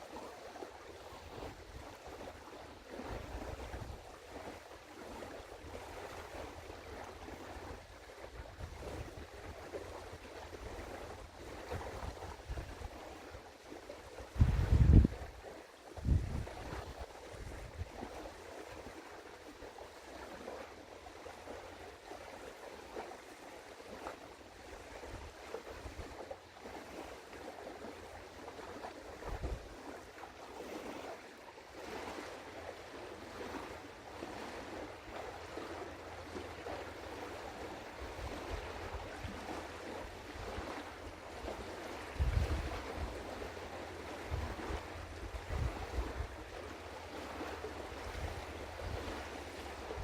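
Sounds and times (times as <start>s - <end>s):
rushing water: 0.0s - 50.0s
wind rumbling on microphone: 0.2s - 31.2s, 31.8s - 50.0s.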